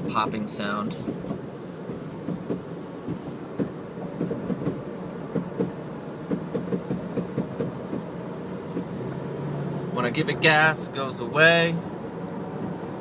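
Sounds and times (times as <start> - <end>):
car exhaust popping: 0.0 - 13.0
road and engine noise: 0.0 - 13.0.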